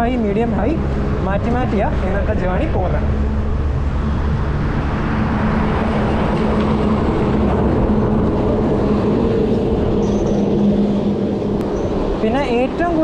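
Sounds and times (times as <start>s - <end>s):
heavy lorry passing: 0.0s - 13.0s
low hum of traffic: 0.0s - 13.0s
wind and road noise: 0.0s - 13.0s.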